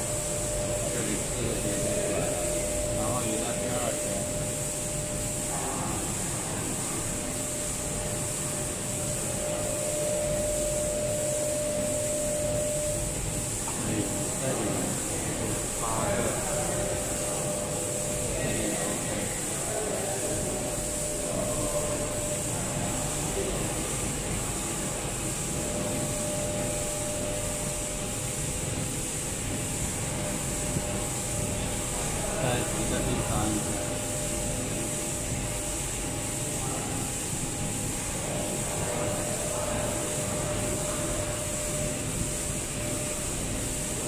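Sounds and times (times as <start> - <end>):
faint steady whine: 0.0 - 44.0
machinery hum and hiss: 0.0 - 44.0.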